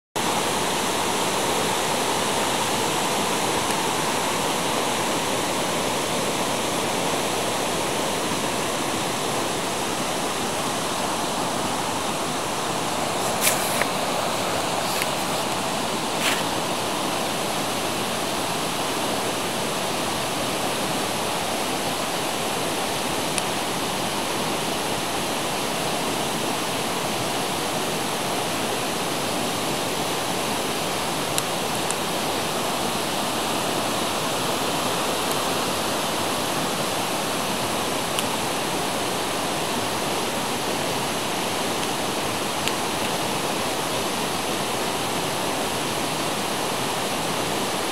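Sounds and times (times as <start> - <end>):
rushing flowing water: 0.2 - 47.9.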